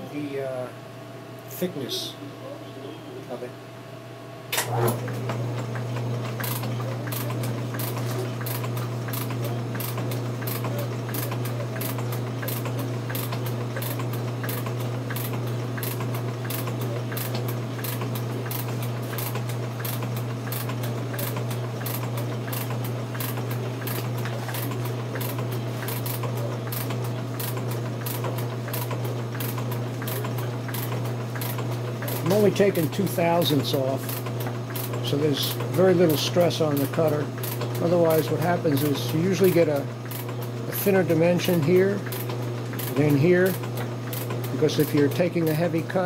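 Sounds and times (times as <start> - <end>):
steady motor hum: 0.0 - 46.0
metal shaper running: 4.5 - 46.0.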